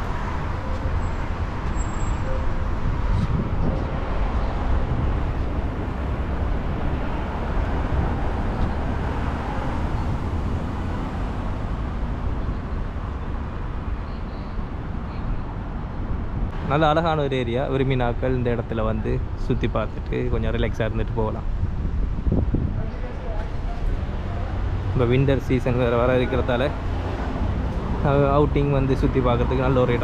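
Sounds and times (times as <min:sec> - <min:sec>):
street and traffic ambience: 0:00.0 - 0:30.0.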